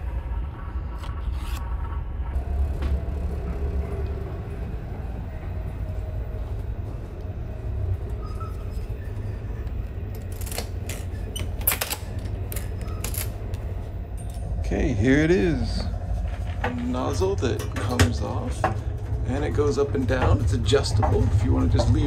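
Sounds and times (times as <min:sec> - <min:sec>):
train rumbling inside carriage: 0:00.0 - 0:22.0.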